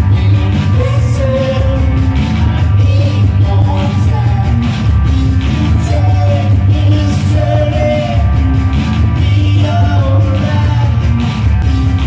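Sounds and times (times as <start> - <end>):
person singing: 0.0 - 4.7, 5.5 - 8.4, 9.1 - 11.2
heavy steady bass: 0.0 - 12.0.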